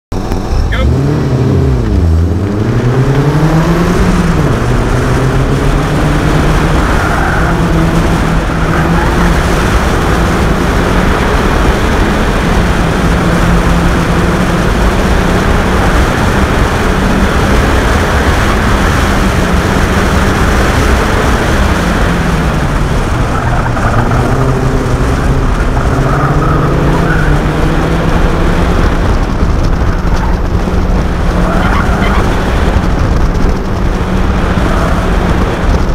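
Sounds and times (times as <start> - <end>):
car engine revving: 0.1 - 35.9.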